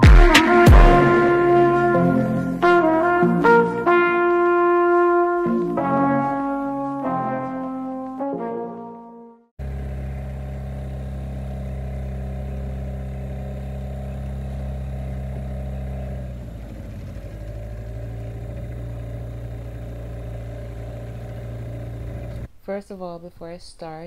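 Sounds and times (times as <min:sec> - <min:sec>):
outboard motor running: 0:00.0 - 0:06.8, 0:09.6 - 0:22.5.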